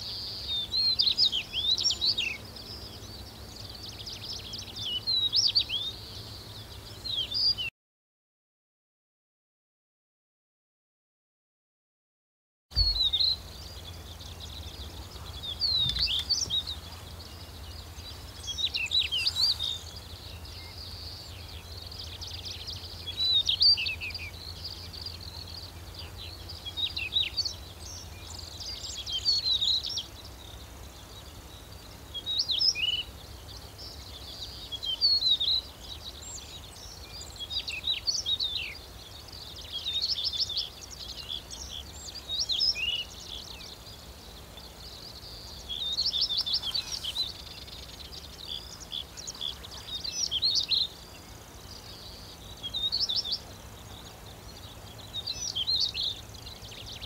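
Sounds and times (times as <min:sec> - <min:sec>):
bird singing warbled phrases: 0:00.0 - 0:07.7, 0:12.8 - 0:57.0.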